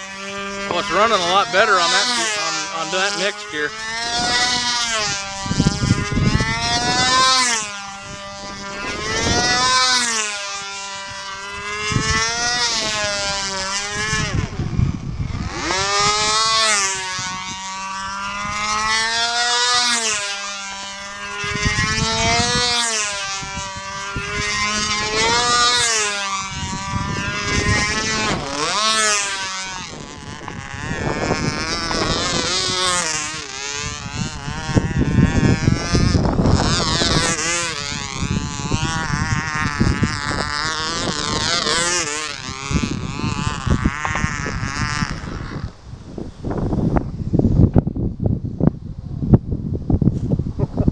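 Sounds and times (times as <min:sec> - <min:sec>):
model airplane engine whine: 0:00.0 - 0:50.9.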